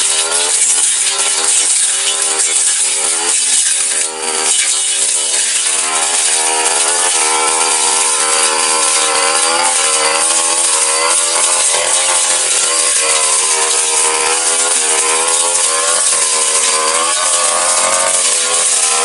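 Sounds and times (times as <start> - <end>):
brush cutter engine running: 0.0 - 19.0.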